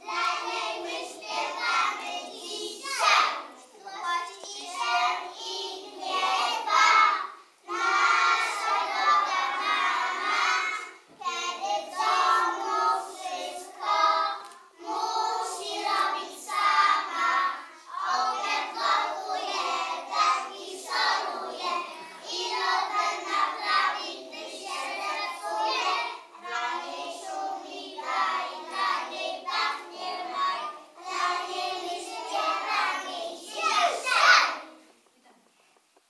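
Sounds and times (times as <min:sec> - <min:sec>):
children singing together: 0:00.0 - 0:34.9.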